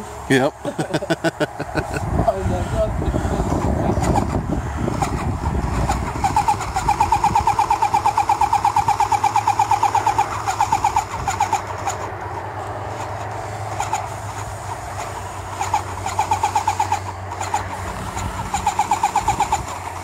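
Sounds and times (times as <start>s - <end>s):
paint sprayer pump pulsing: 0.0s - 20.0s
steady low hum: 0.0s - 20.0s.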